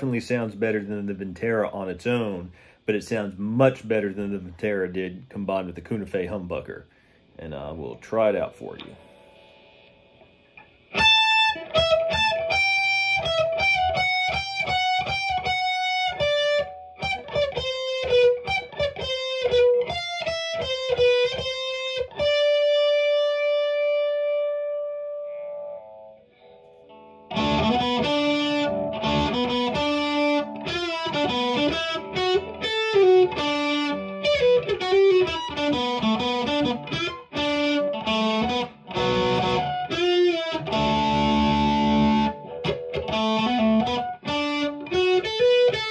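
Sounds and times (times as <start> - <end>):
electric guitar through amp: 8.7 - 45.9.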